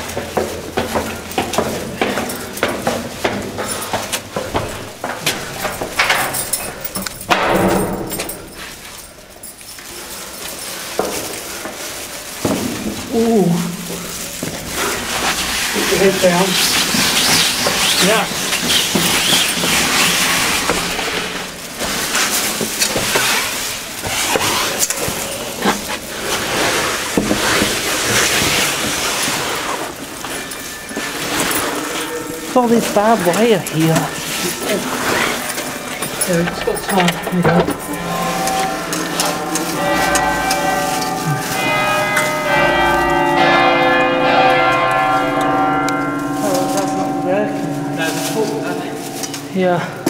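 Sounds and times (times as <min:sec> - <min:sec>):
large church bells ringing: 0:00.0 - 0:24.0, 0:24.6 - 0:50.0
clothing and plastic bag rustling: 0:00.0 - 0:50.0
footsteps on stone stairs: 0:00.0 - 0:50.0.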